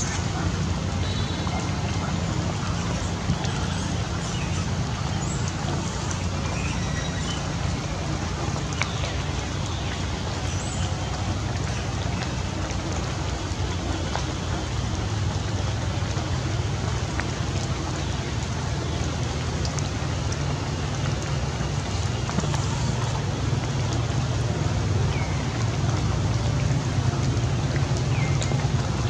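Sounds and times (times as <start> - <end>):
rain drop ticks: 0.0 - 29.0
steady rain hiss: 0.0 - 29.0.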